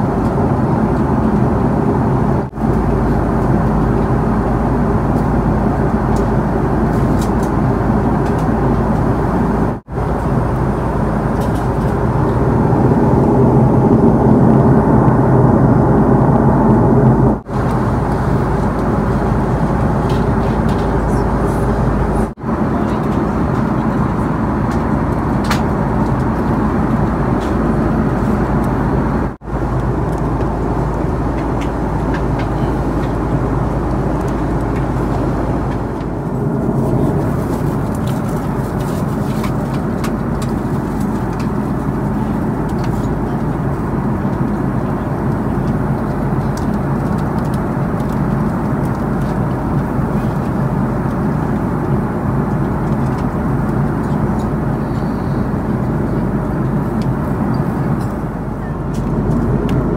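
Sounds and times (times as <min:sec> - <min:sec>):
airliner cabin roar: 0:00.0 - 0:59.9.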